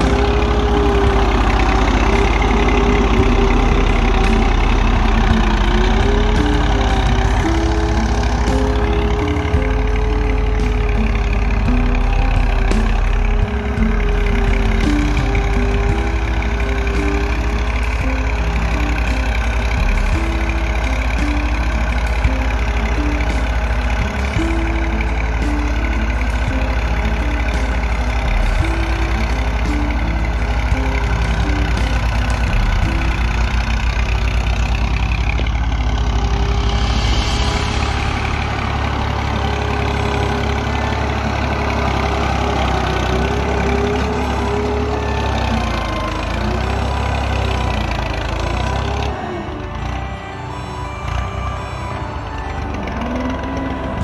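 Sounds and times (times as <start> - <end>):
tractor diesel engine rumbling: 0.0 - 54.0.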